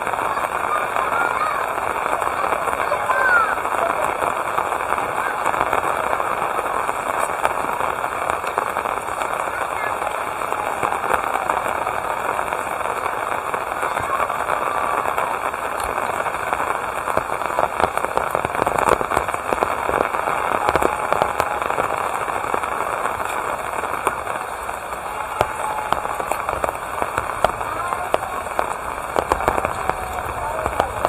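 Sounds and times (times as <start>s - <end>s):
steady rain patter: 0.0s - 31.0s.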